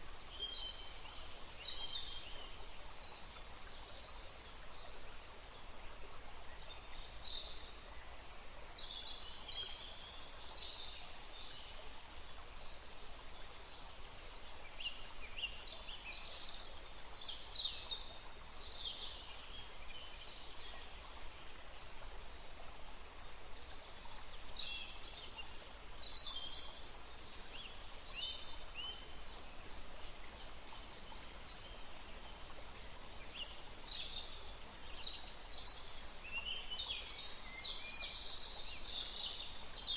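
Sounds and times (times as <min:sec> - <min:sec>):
outdoor background hiss: 0:00.0 - 0:39.9
songbirds chirping: 0:00.0 - 0:39.9.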